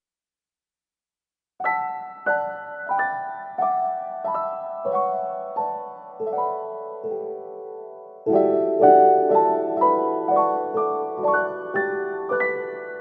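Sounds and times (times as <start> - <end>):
slow piano melody: 1.6 - 13.0.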